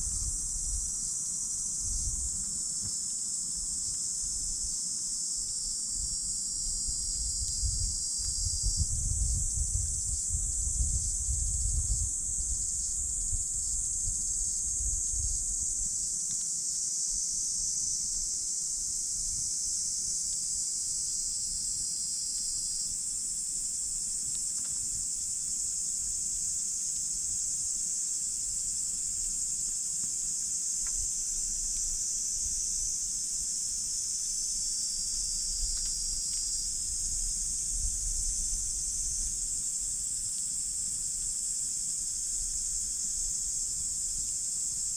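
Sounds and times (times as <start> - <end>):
insects chorus: 0.0 - 44.9.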